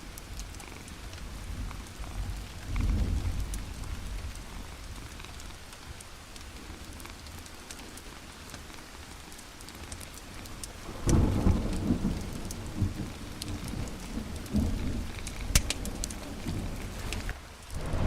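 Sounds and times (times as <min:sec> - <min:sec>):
steady hiss with crackles: 0:00.0 - 0:18.0.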